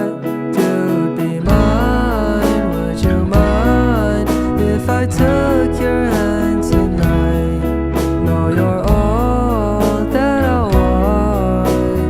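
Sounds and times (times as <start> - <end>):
song with melodic vocals: 0.0 - 12.0.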